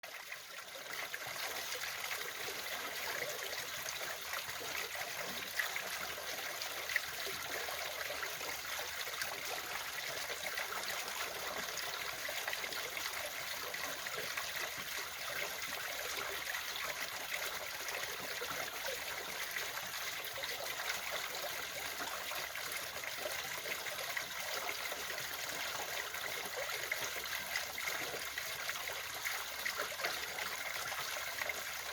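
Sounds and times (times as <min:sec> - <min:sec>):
water trickling and splashing: 0:00.0 - 0:31.9.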